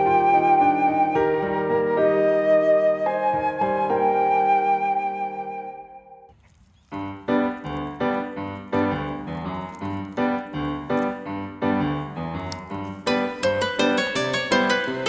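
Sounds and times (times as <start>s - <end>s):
gentle keyboard tune: 0.0s - 5.6s, 7.1s - 15.0s.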